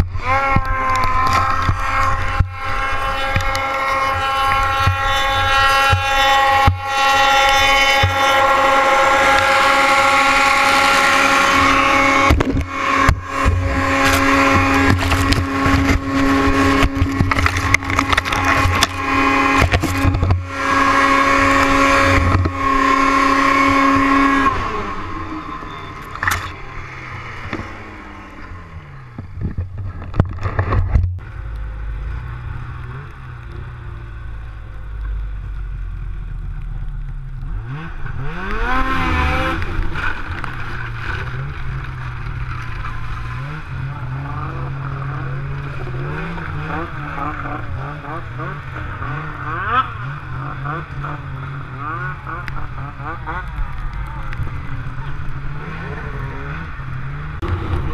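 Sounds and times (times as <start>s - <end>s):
snowmobile engine revving: 0.0s - 57.9s.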